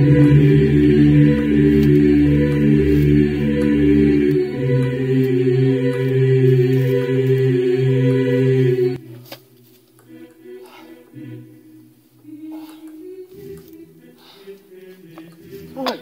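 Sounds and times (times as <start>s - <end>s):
choir-like chanting voices: 0.0s - 16.0s.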